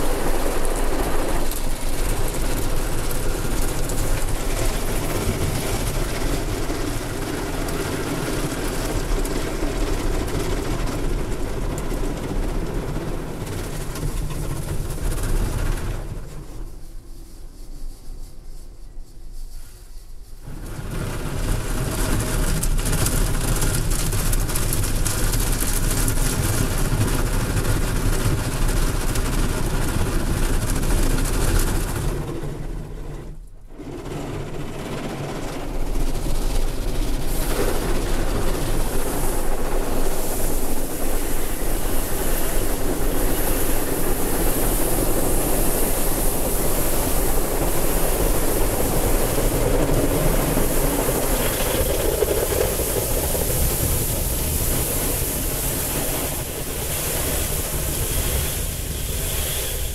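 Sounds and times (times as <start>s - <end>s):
car wash water spray and machinery: 0.0s - 18.0s, 20.1s - 59.9s.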